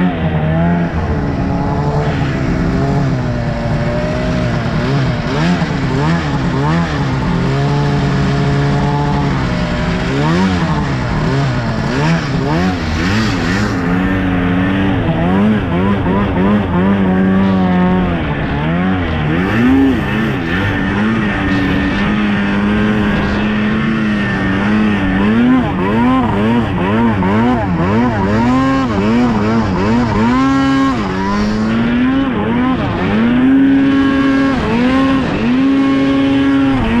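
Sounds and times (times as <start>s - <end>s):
snowmobile engine revving: 0.0s - 37.0s.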